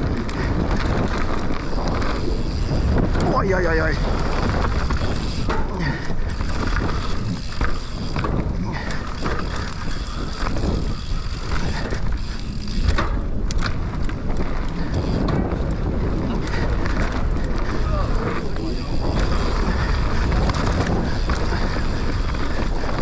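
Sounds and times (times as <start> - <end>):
bike knocks and rattles: 0.0 - 23.0
wind buffeting the microphone: 0.0 - 23.0.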